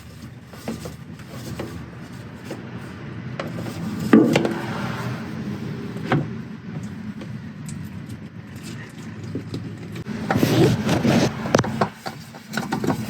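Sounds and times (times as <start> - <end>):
parts scraping: 0.0 - 13.0.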